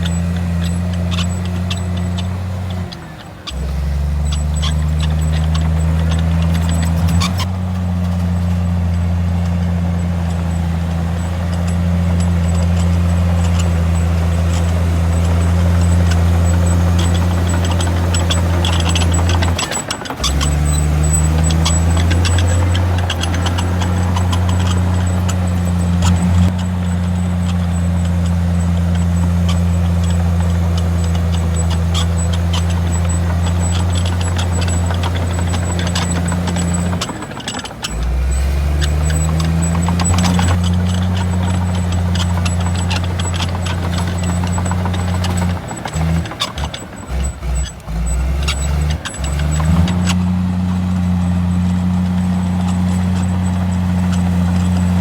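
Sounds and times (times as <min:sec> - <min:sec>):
bulldozer diesel engine running: 0:00.0 - 0:55.0
rapid metallic clanking: 0:00.0 - 0:55.0.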